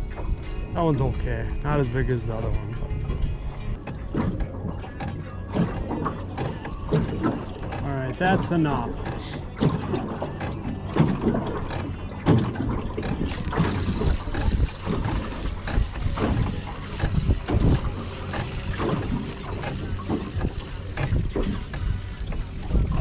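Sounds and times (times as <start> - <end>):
wind and water against hull: 0.0 - 23.0.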